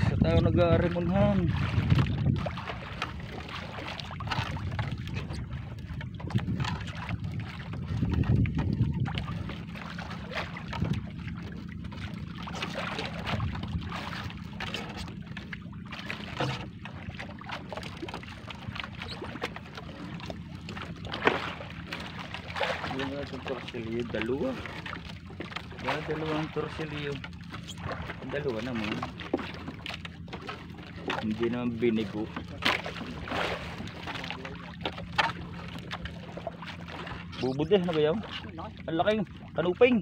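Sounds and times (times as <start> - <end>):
water around boat: 0.0 - 40.0
wind: 0.0 - 40.0
fishing net hauled aboard: 0.8 - 40.0.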